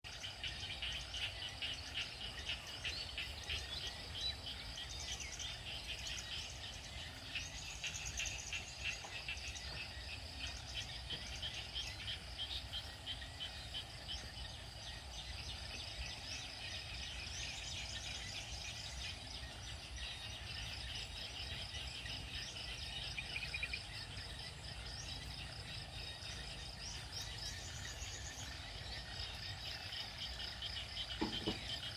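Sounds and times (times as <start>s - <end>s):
frogs and insects chirping: 0.0s - 31.9s.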